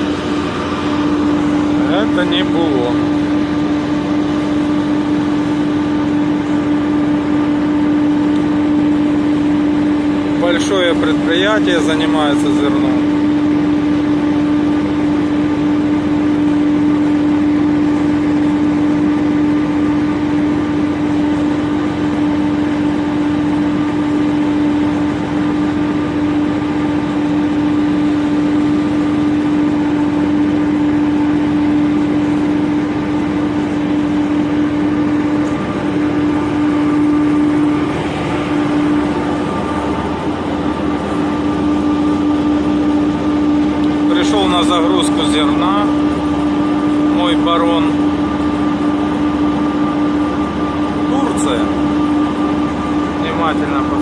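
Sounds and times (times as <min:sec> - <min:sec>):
ship engine droning: 0:00.0 - 0:54.0.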